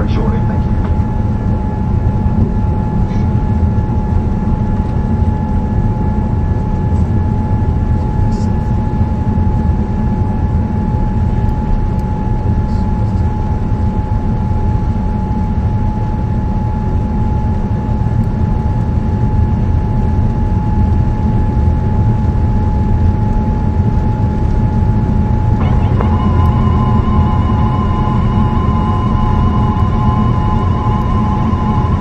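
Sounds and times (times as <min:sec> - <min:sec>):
steady whine: 0:00.0 - 0:17.0, 0:23.2 - 0:32.0
rumble of airflow and jet engines: 0:00.0 - 0:32.0.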